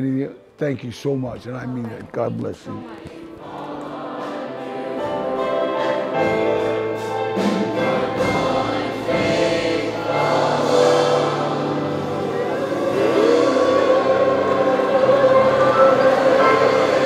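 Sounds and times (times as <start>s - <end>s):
group singing slowly: 2.5s - 17.0s.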